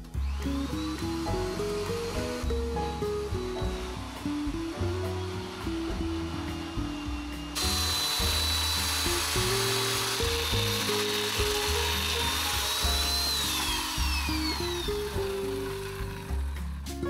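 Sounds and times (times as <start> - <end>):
electric hand planer on wood: 0.0 - 16.9
background music: 0.0 - 17.0.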